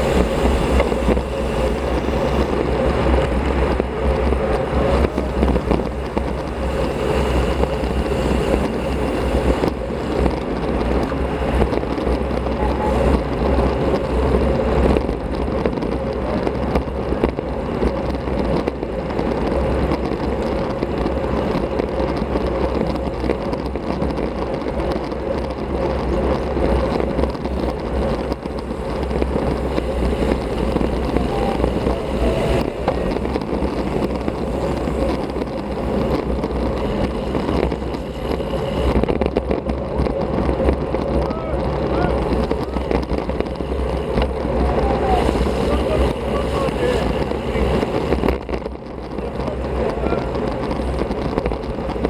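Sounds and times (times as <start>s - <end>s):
bike tyre and road noise: 0.0s - 52.0s
wind buffeting microphone: 0.0s - 52.0s.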